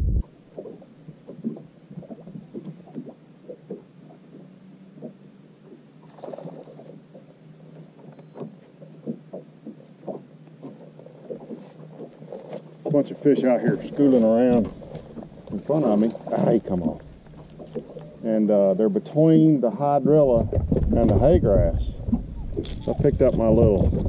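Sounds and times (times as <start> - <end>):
waves lapping against boat hull: 0.2 - 24.0.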